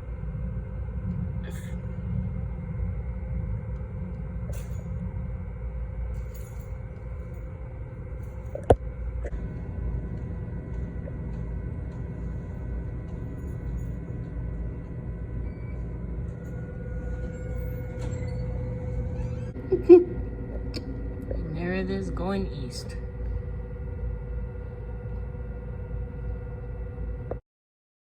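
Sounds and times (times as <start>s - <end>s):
faint hum: 0.0s - 27.4s
low rumbling noise: 0.0s - 27.4s.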